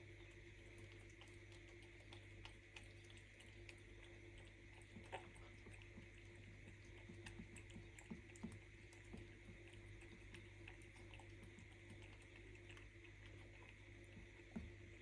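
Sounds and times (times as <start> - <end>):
cat chewing and lapping: 0.0 - 15.0
faint steady hum: 0.0 - 15.0.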